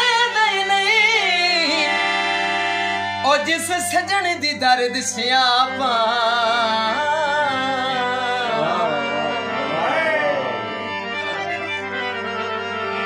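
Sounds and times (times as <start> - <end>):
harmonium playing: 0.0 - 13.0.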